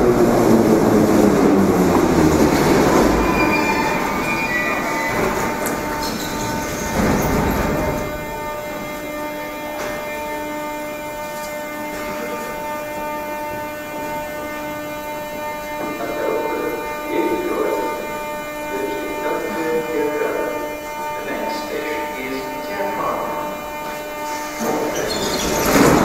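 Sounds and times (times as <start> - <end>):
train electric hum: 0.0 - 26.0.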